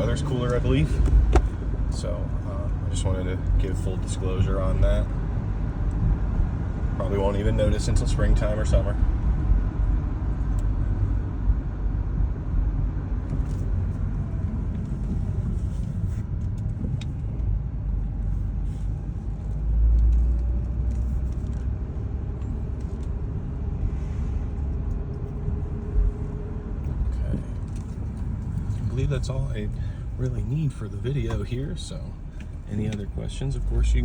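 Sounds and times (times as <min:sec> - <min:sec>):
car interior road and engine noise: 0:00.0 - 0:34.0.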